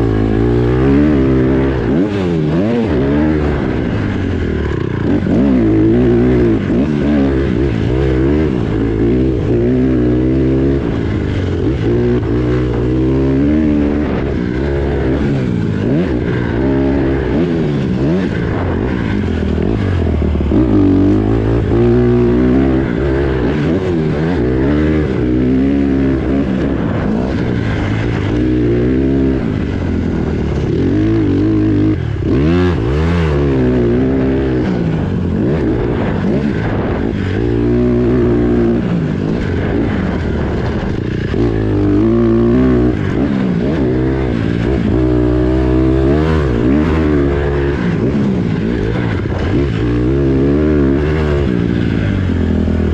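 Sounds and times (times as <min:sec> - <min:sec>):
motorbike engine revving: 0:00.0 - 0:52.9.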